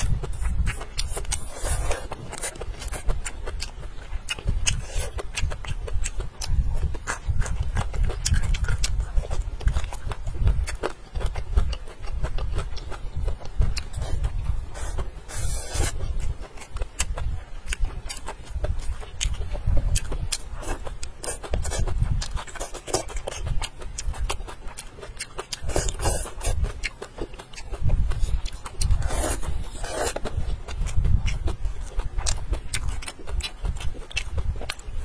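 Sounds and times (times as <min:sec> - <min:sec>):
person chewing with wet smacks: 0:00.0 - 0:35.0.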